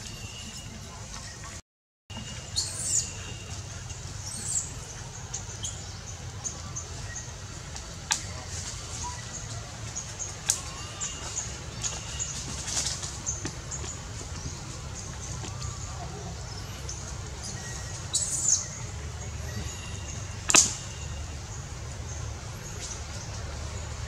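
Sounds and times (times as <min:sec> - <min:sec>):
steady low rumble: 0:03.3 - 0:24.0.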